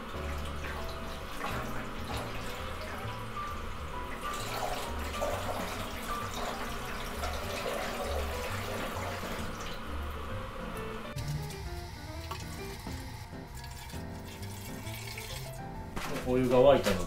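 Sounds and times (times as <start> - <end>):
water pouring into metal tank: 0.0 - 9.9, 11.2 - 17.0.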